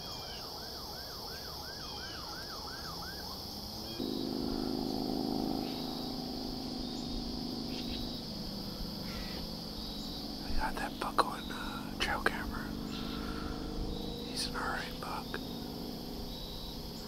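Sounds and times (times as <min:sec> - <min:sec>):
distant siren: 0:00.0 - 0:17.0
insects buzzing: 0:00.0 - 0:17.0
low motor drone: 0:03.1 - 0:17.0.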